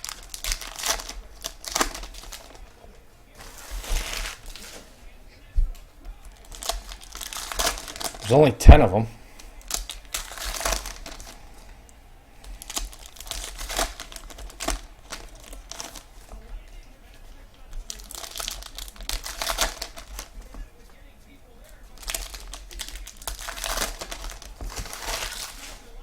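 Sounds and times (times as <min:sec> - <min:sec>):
wrappers crinkling and tearing: 0:00.0 - 0:08.5, 0:09.4 - 0:26.0.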